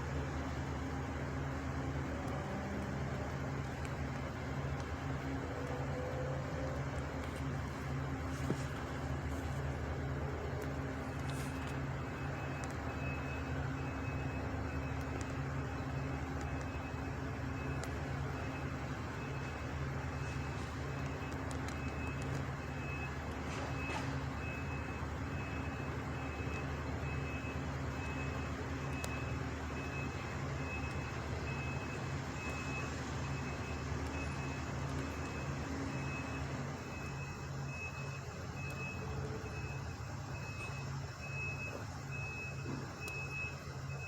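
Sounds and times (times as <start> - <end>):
truck engine running: 0.0 - 44.0
truck reverse alarm beeping: 0.0 - 44.0.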